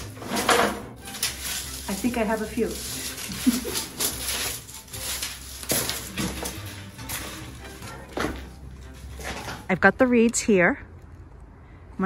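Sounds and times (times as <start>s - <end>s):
dry reed stems rustling: 0.0s - 10.1s.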